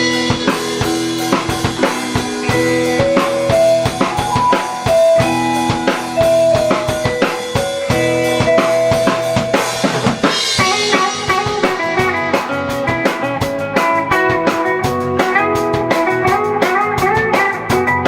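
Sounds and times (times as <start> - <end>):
bass guitar: 0.0 - 18.0
drum kit beat: 0.0 - 18.0
electric guitar: 0.0 - 18.0.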